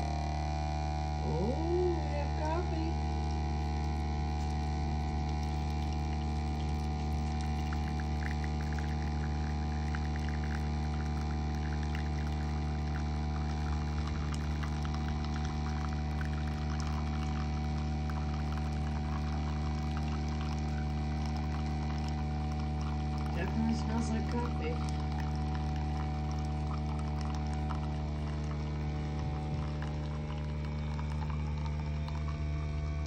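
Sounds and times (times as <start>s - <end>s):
coffee maker motor hum: 0.0s - 33.0s
coffee pouring into cup: 1.3s - 33.0s.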